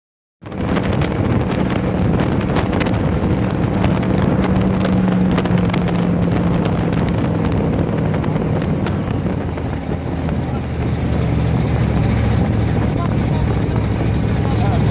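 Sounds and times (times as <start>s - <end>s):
dune buggy engine running: 0.4s - 14.9s
wind buffeting microphone: 0.4s - 14.9s.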